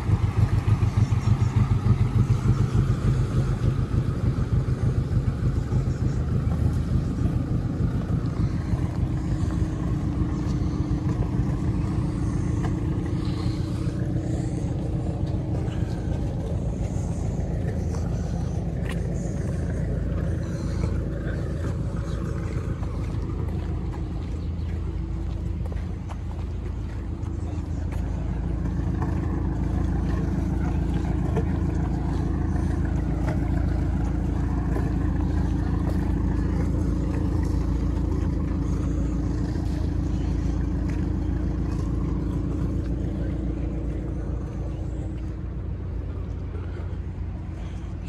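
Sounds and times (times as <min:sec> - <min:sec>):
boat diesel engine chugging: 0:00.0 - 0:48.0.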